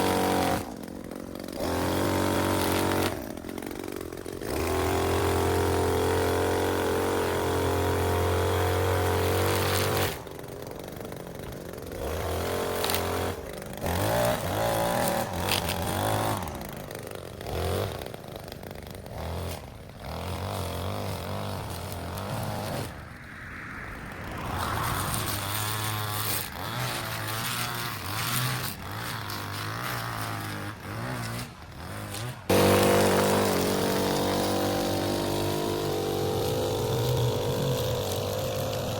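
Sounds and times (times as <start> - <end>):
lawn mower engine cutting grass: 0.0 - 38.9.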